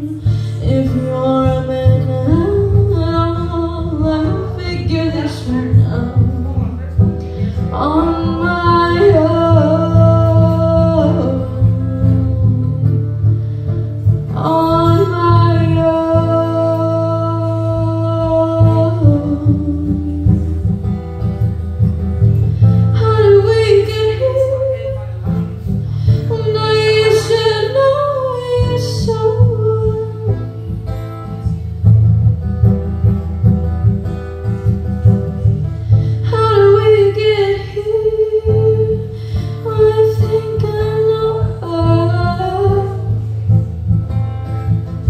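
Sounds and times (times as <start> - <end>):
woman singing into microphone: 0.0 - 13.4, 14.0 - 20.8, 22.6 - 30.7, 35.9 - 43.7
backing track with guitar: 0.0 - 45.0.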